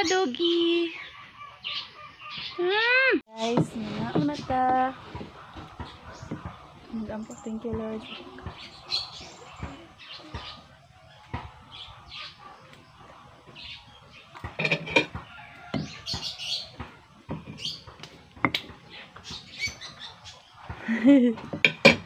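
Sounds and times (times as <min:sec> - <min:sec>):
small birds chirping: 0:00.0 - 0:21.7.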